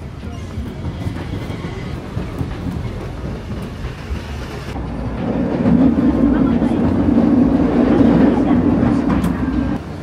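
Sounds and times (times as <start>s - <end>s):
steel wheels rumbling on rails: 0.0s - 10.0s.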